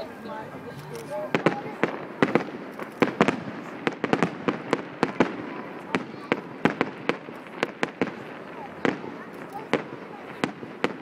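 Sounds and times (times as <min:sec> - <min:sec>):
fireworks crackling: 0:00.0 - 0:11.0
fireworks shells bursting: 0:00.8 - 0:11.0.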